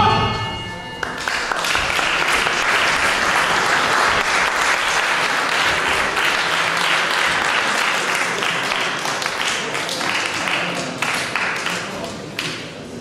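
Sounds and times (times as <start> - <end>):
audience applauding: 1.0 - 12.6.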